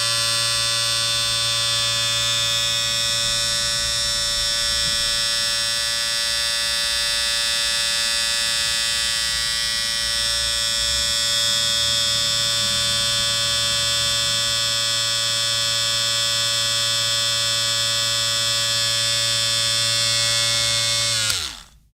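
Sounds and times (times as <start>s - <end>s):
electric shaver buzzing: 0.0s - 21.9s.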